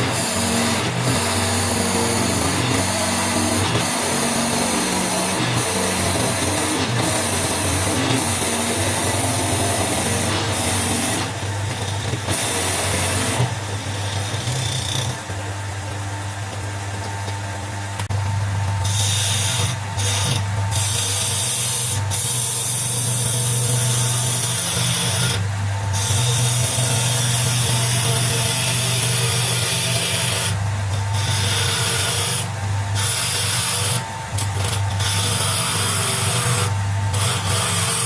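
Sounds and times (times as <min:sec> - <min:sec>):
gouge cutting spinning wood: 0:00.0 - 0:17.4, 0:18.1 - 0:38.0
lathe motor humming: 0:00.0 - 0:38.0.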